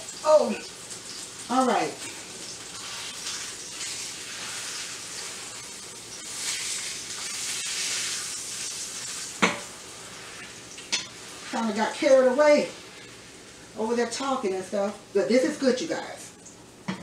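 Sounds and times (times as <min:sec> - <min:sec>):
meat sizzling in a frying pan: 0:00.0 - 0:16.9.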